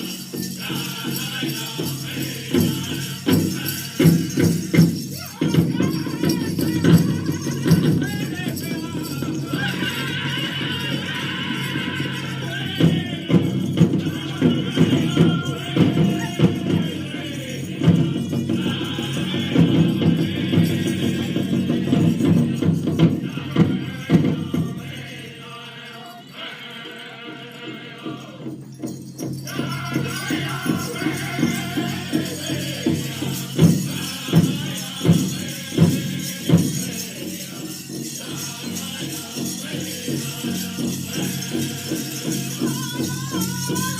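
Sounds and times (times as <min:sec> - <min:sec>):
big drum beats: 0:00.0 - 0:25.2, 0:28.1 - 0:43.9
group singing in unison: 0:00.0 - 0:43.9.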